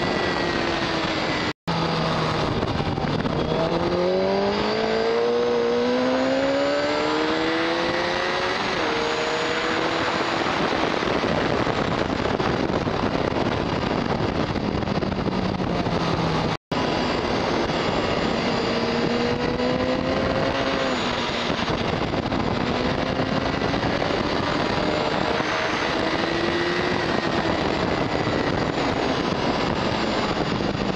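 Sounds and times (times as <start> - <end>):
motorcycle engine revving: 0.0 - 30.9
wind rush on microphone: 0.0 - 30.9.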